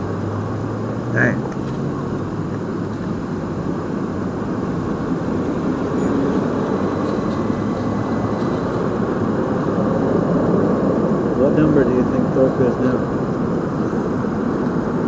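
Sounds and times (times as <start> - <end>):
vehicle noise rumble: 0.0 - 15.0.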